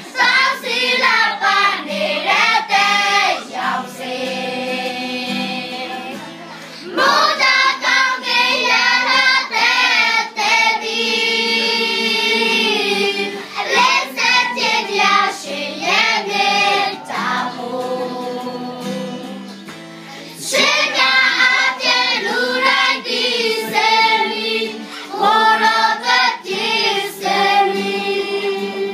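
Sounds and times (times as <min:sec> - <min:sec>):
children singing as a choir: 0:00.0 - 0:19.4, 0:20.2 - 0:28.9.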